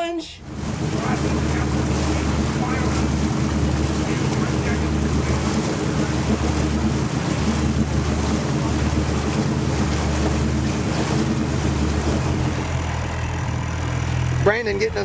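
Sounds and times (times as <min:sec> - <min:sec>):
boat engine running: 0:00.0 - 0:15.0
wake rushing: 0:00.0 - 0:15.0
wind buffeting microphone: 0:00.4 - 0:14.0.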